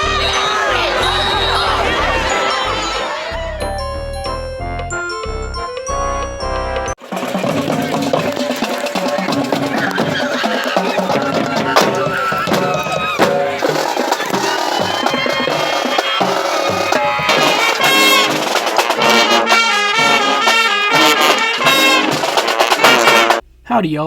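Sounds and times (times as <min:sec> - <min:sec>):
marching band brass and drums: 0:00.0 - 0:03.6, 0:07.0 - 0:23.5.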